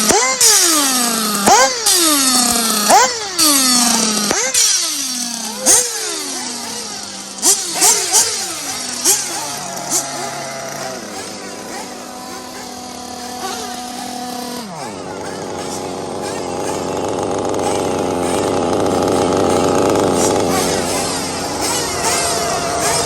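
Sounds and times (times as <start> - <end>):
electric rc car motors whining: 0.0 - 23.0.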